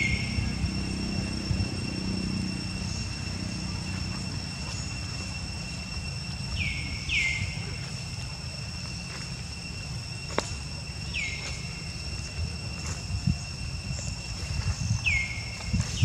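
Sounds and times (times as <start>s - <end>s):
high insect drone: 0.0s - 16.0s
low rumble: 0.0s - 16.0s.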